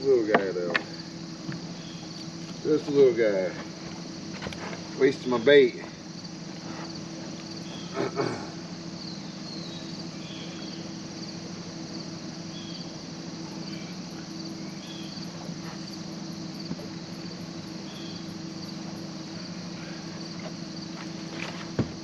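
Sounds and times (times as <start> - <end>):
insects chirring: 0.0 - 22.0
low hum: 0.0 - 22.0.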